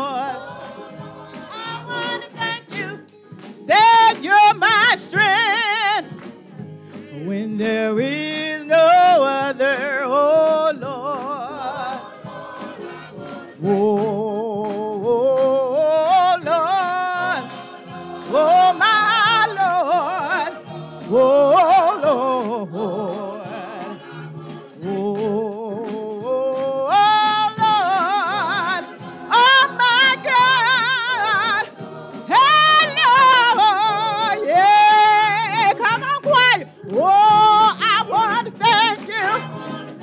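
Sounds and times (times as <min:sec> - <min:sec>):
gospel lead voice singing: 0:00.0 - 0:40.0.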